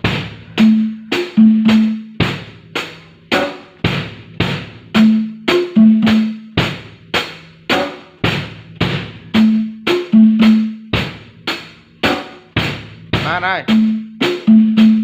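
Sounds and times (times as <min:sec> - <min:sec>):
drum kit beat: 0:00.0 - 0:15.0.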